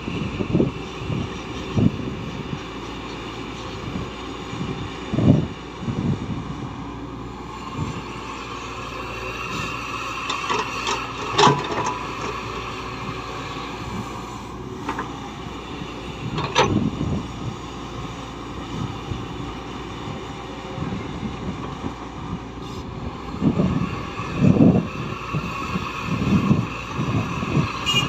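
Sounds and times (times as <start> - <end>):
heavy machinery running: 0.0 - 28.0.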